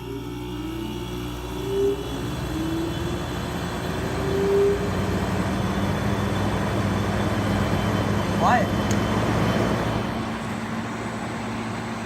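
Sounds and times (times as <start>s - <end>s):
air conditioner fan rush: 0.0s - 12.0s
compressor low hum: 0.0s - 12.0s.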